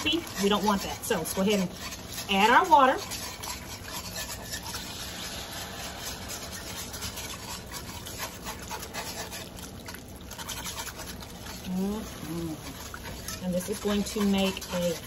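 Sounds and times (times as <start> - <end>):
wire whisk scraping skillet: 0.0 - 15.0.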